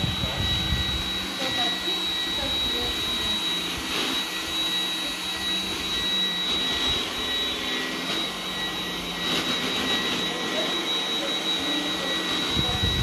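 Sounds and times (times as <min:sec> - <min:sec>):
robot vacuum running: 0:00.0 - 0:13.0
thin high whine: 0:00.0 - 0:13.0.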